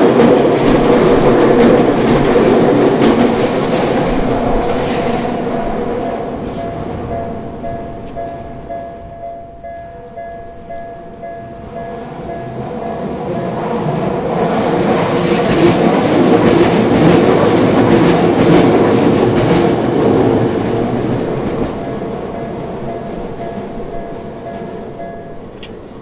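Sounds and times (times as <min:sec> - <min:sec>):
electric train passing: 0:00.0 - 0:26.0
train wheels clacking: 0:00.0 - 0:26.0.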